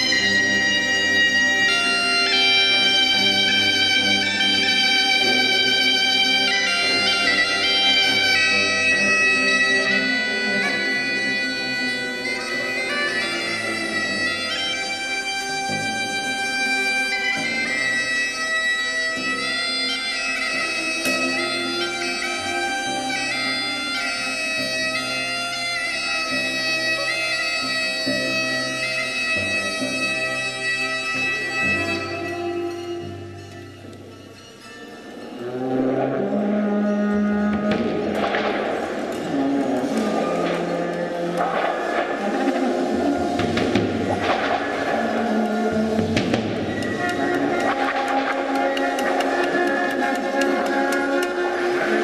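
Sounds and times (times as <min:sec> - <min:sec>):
bagpipe playing over drone: 0:00.0 - 0:52.0.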